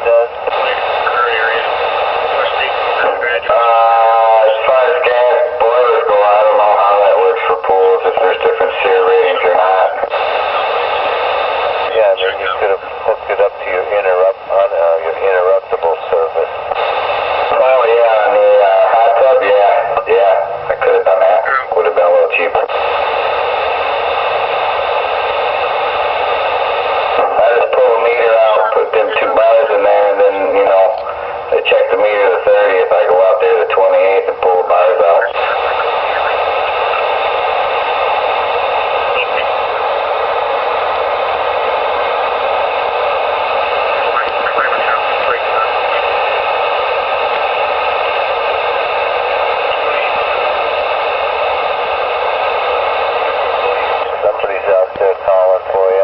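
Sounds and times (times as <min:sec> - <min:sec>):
distorted voice over radio: 0:00.0 - 0:56.0
radio static hiss: 0:00.0 - 0:56.0.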